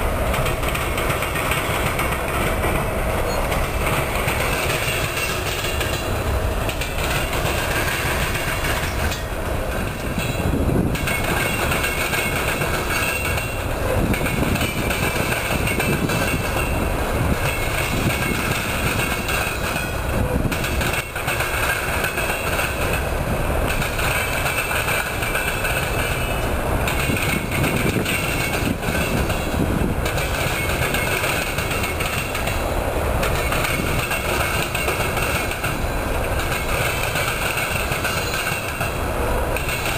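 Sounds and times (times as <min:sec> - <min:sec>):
train wheels clattering: 0:00.0 - 0:39.9.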